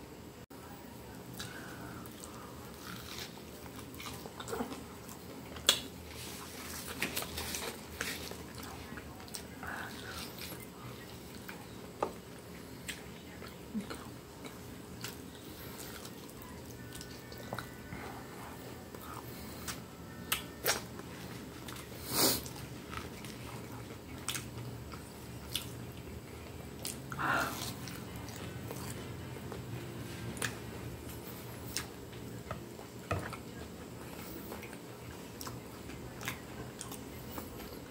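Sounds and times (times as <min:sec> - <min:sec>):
faint steady hum: 0:00.0 - 0:37.9
chewing and biting fried food: 0:01.3 - 0:11.8, 0:12.4 - 0:32.1, 0:32.8 - 0:37.9.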